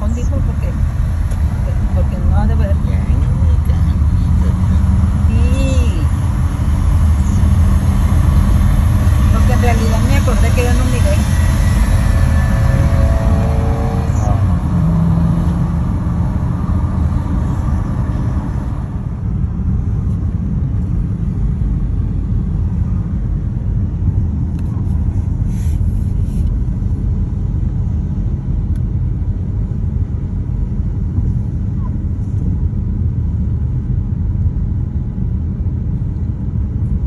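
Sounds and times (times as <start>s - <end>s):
car driving rumble: 0.0s - 37.0s.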